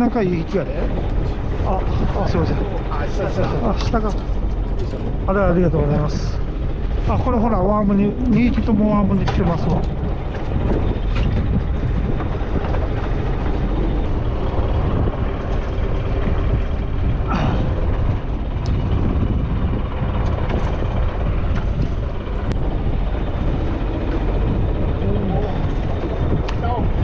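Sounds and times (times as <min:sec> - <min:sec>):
boat engine rumbling: 0:00.0 - 0:27.0
sea noise: 0:00.0 - 0:27.0
wind: 0:00.0 - 0:27.0.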